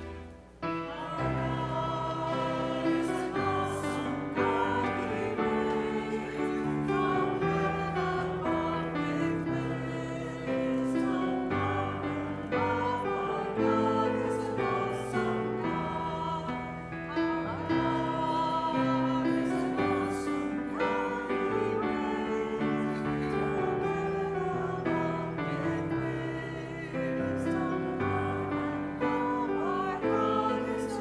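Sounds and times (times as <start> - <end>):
voices singing a hymn: 0.0 - 31.0.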